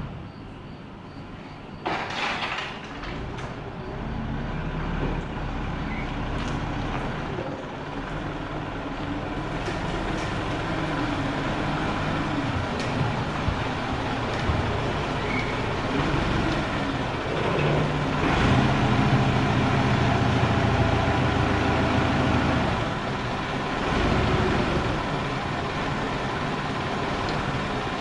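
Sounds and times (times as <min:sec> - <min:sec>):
vehicle engine running: 0:03.9 - 0:28.0.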